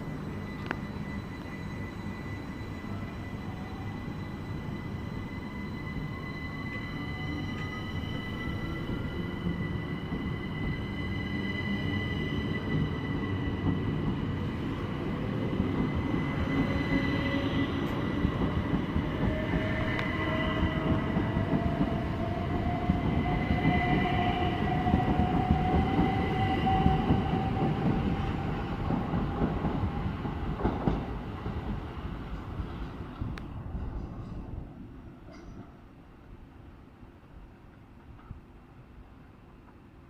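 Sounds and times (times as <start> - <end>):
train wheels rumbling on rails: 0.0 - 36.8.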